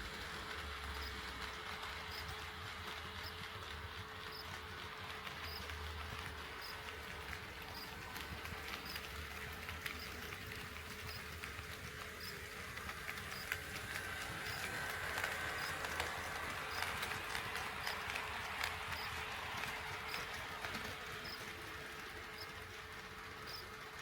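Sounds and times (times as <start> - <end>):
model train hum: 0.0 - 24.0.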